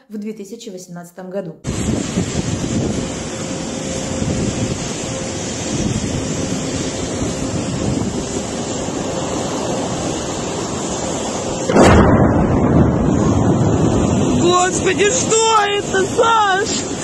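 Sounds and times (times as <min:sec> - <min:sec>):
roaring fire: 0:01.7 - 0:17.0.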